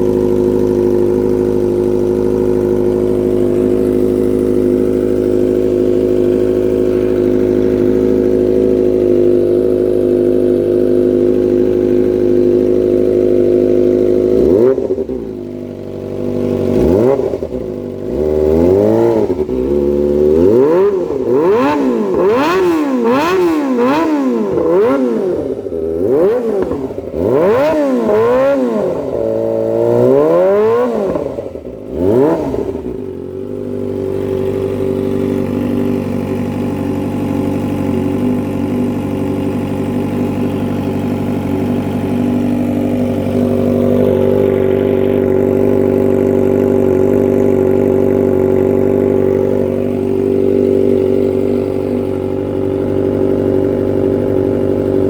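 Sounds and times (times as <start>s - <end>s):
motorcycle engine revving and idling: 0.0s - 55.0s.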